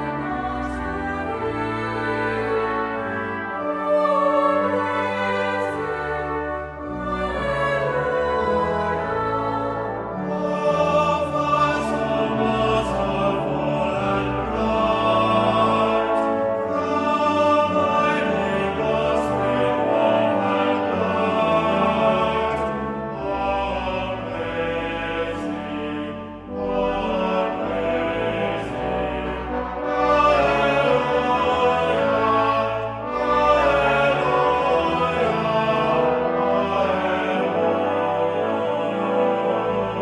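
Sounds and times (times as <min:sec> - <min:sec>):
choir singing with orchestra: 0:00.0 - 0:40.0.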